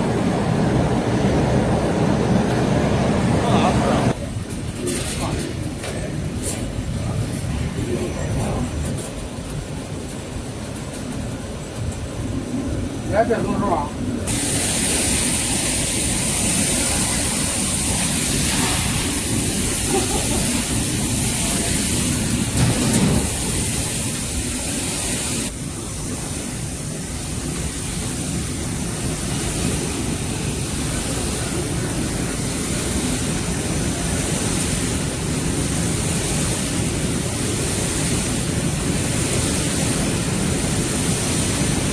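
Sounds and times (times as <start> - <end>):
machine noise with high whine: 0.0 - 41.9.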